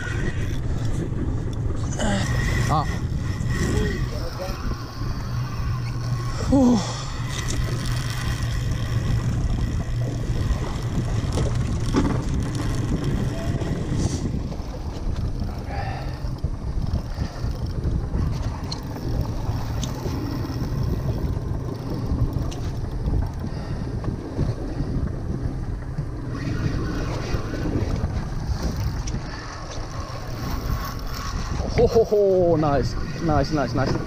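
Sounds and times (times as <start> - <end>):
boat engine running: 0.0 - 34.0
wind buffeting microphone: 0.0 - 34.0.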